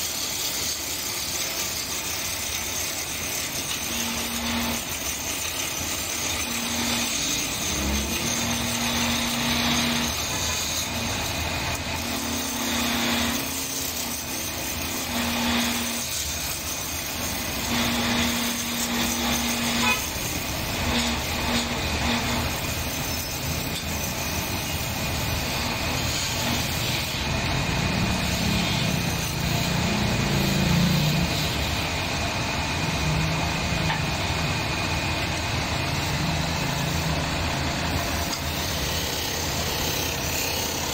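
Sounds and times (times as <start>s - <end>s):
chisel cutting wood shavings: 0.0s - 32.1s, 35.5s - 40.9s
wood lathe spinning: 0.0s - 40.9s.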